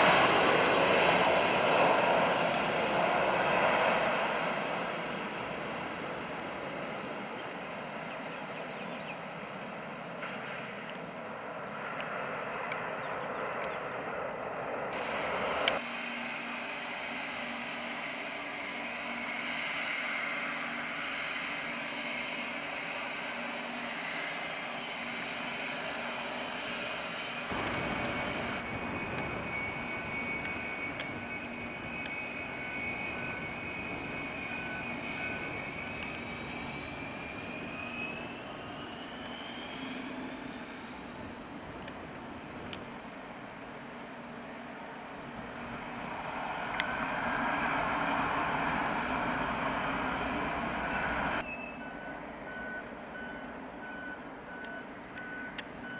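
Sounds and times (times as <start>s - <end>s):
jet turbine engines whining: 0.0s - 55.9s.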